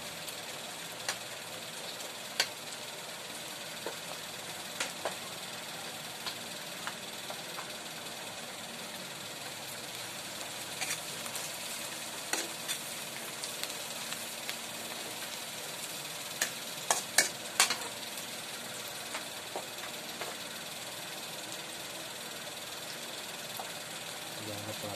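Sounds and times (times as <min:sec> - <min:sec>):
food sizzling in oil: 0:00.0 - 0:24.9.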